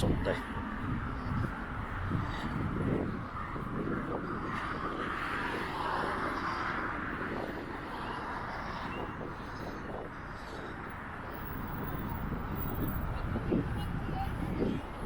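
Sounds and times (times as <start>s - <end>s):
passing road traffic: 0.0s - 15.0s
wind buffeting microphone: 0.0s - 15.0s.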